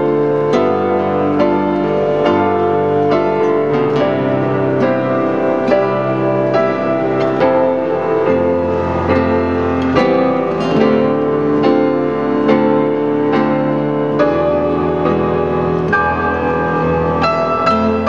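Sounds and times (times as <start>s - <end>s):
piano and guitar duet: 0.0s - 18.0s.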